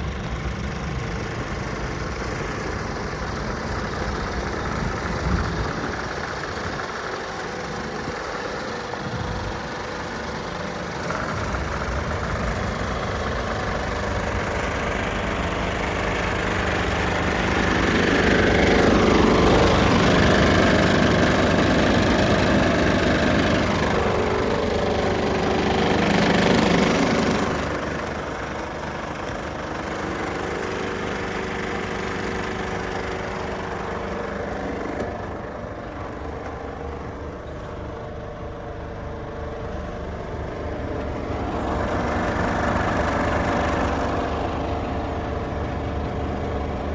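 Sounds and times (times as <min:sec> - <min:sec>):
truck diesel engine idling: 0:00.0 - 0:46.9.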